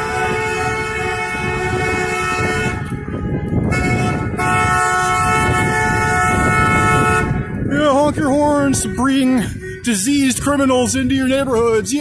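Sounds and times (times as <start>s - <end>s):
car horns honking: 0.0s - 12.0s.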